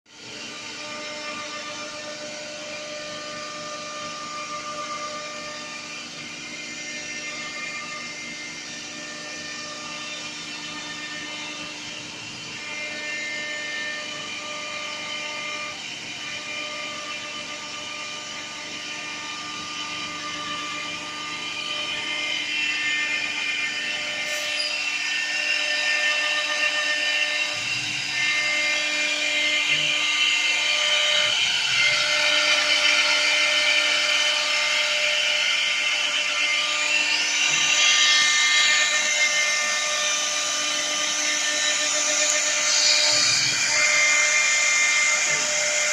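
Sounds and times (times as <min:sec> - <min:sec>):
lathe router spindles whining: 0:00.1 - 0:45.9.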